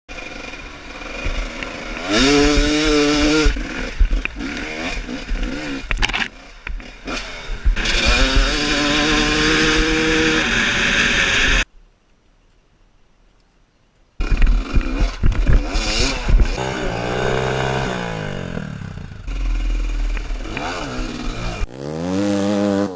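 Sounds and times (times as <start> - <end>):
dirt bike engine revving: 0.1 - 11.6, 14.2 - 22.9.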